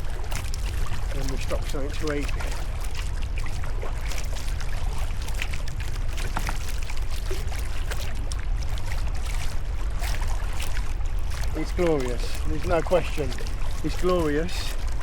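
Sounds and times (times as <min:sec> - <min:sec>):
paddle strokes splashing: 0:00.0 - 0:15.0
water slapping hull: 0:00.0 - 0:15.0
water trickling off paddle: 0:00.0 - 0:15.0
wind rumble on microphone: 0:00.0 - 0:15.0.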